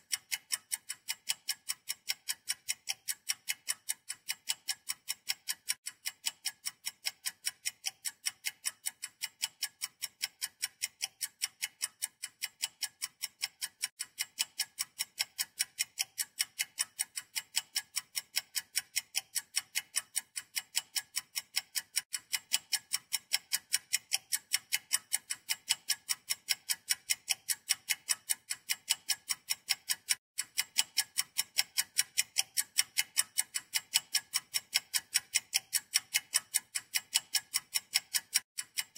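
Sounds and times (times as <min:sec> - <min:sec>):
rapid high ticking: 0:00.1 - 0:38.9.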